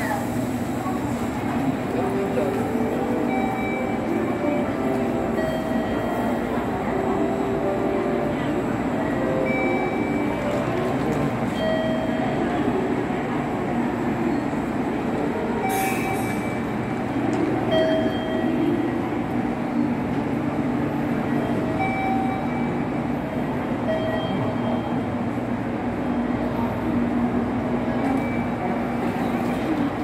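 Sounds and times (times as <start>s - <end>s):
electric train humming: 0.0s - 30.0s.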